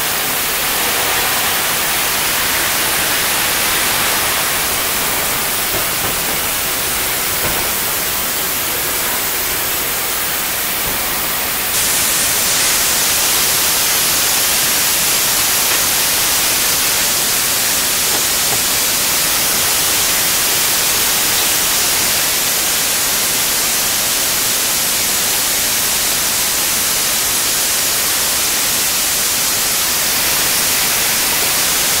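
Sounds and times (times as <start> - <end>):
steam locomotive blowing off steam: 0.0 - 32.0.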